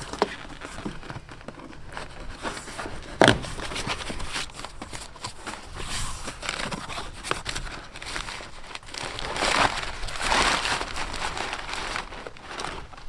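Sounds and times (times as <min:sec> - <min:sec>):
packing paper crumpling: 0:00.0 - 0:13.0.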